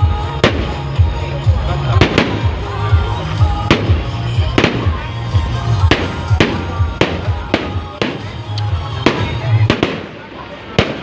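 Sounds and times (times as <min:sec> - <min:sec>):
fireworks bangs: 0:00.0 - 0:01.3, 0:01.9 - 0:11.0
music with heavy bass beat: 0:00.0 - 0:09.9.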